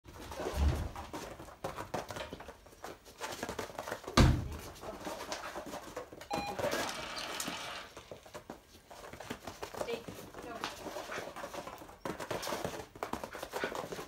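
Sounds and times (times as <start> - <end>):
paws and footsteps on foam mats: 0.1 - 6.9, 7.9 - 14.0.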